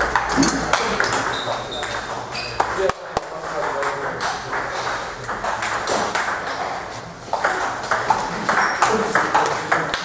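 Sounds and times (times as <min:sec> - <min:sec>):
table tennis balls tapping: 0:00.0 - 0:10.0.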